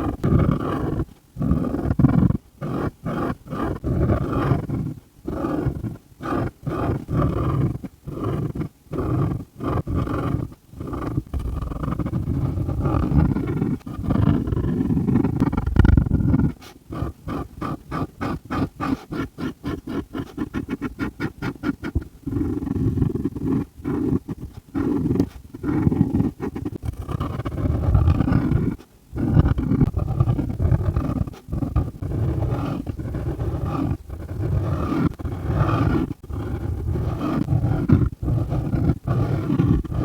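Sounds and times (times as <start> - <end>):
markers scribbling on paper: 0.0 - 40.0.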